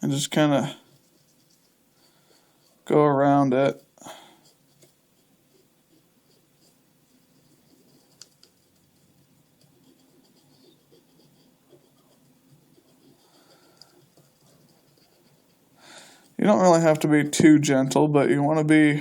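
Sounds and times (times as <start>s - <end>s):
scratchy rubbing on plastic grille: 0.0s - 15.7s.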